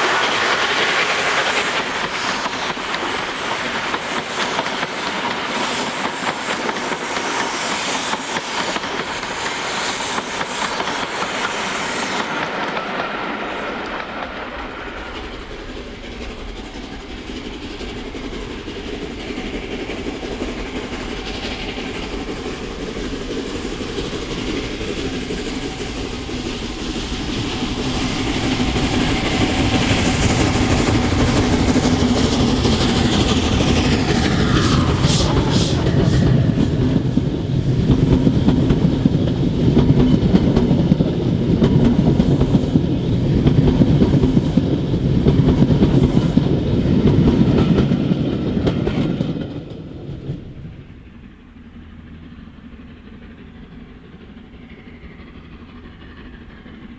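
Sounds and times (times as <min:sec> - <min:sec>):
steam locomotive working: 0:00.0 - 0:56.9
train wheels clicking over rail joints: 0:00.0 - 0:56.9.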